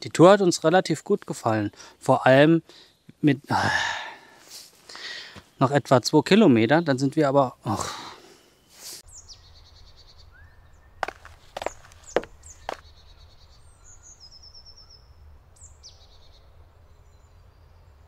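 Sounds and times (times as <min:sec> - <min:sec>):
birds chirping: 0:00.4 - 0:18.0.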